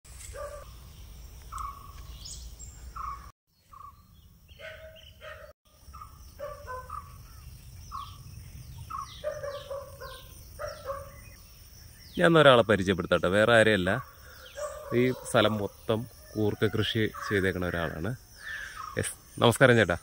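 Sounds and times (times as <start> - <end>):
birds chirping: 0.2 - 20.0.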